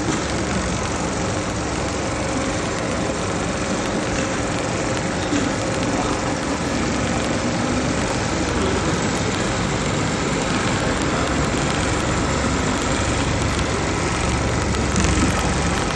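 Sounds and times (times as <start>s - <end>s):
sewing machine clattering: 0.0s - 15.9s.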